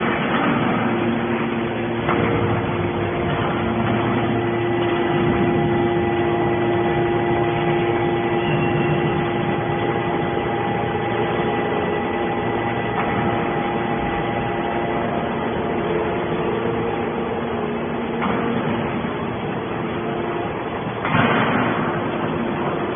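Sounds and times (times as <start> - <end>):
constant machine whine: 0.0 - 22.9
machine drone: 0.0 - 22.9.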